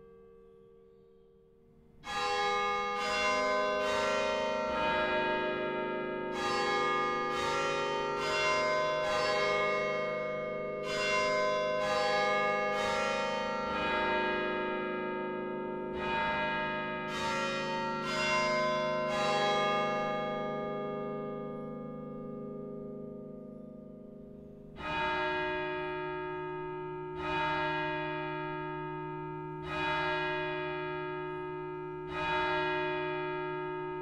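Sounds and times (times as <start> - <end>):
church bells ringing: 2.0 - 34.0.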